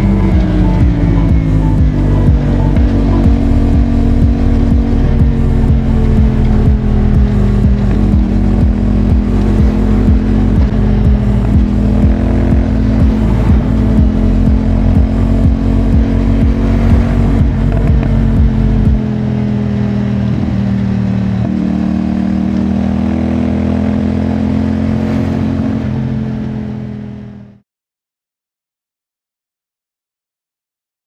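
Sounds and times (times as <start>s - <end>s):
motorcycle engine running: 0.0s - 27.6s.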